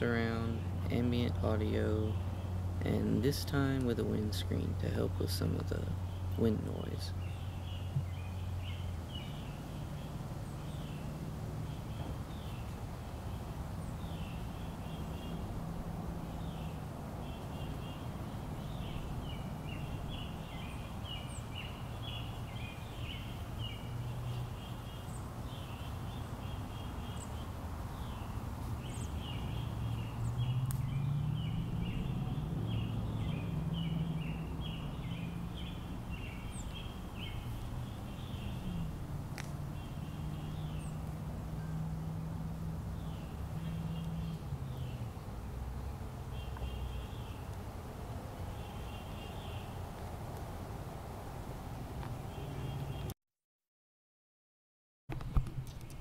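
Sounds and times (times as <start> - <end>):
birds chattering and chirping: 0.0 - 50.1.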